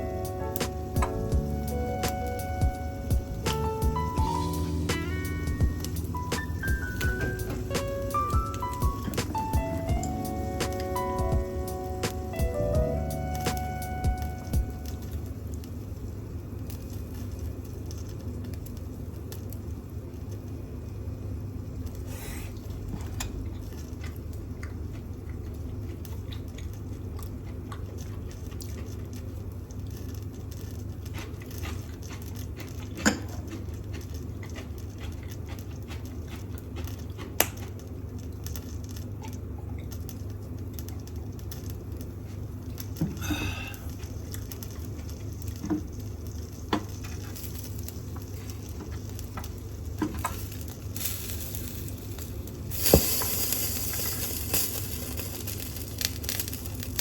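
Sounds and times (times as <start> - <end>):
meat crackling on a grill: 0.0 - 57.0
range hood fan humming: 0.0 - 57.0.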